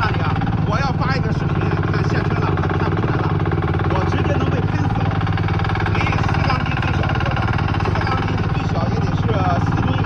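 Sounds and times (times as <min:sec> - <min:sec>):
heavy machine engine rumbling: 0:00.0 - 0:10.0.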